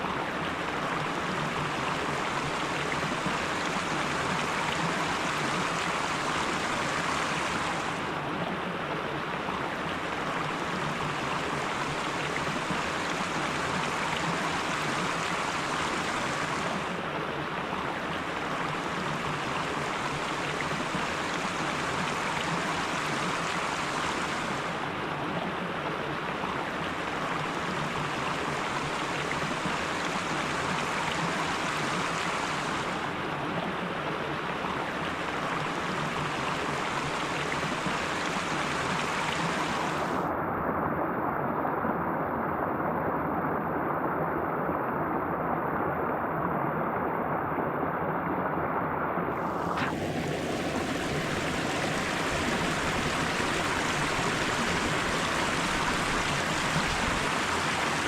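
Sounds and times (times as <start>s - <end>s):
stream water rushing: 0.0s - 40.6s, 48.5s - 58.0s.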